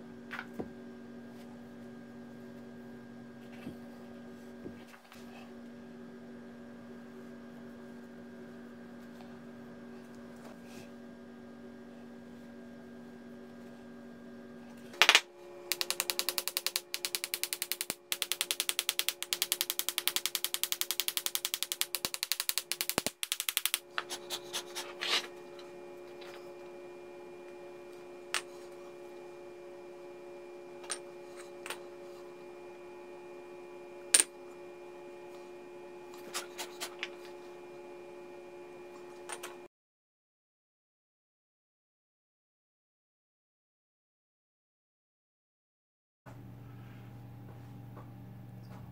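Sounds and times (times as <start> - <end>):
steady electrical hum: 0.0 - 39.7, 46.3 - 48.9.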